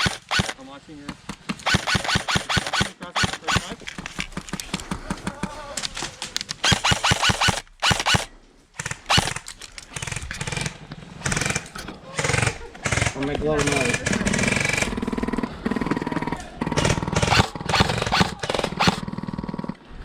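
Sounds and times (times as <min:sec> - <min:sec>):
airsoft guns firing: 0:00.0 - 0:05.6, 0:06.6 - 0:19.6.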